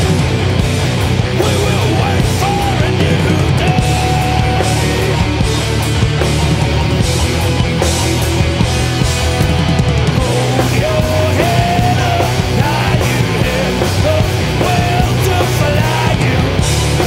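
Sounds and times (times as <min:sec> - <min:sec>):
bending lead melody: 0:00.0 - 0:17.0
heavy metal band playing: 0:00.0 - 0:17.0.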